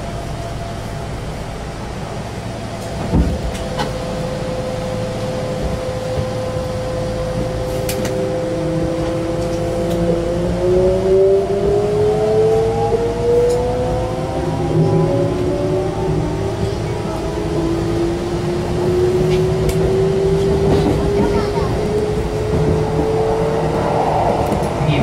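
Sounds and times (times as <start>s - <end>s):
train traction motors whining: 0.0s - 25.0s.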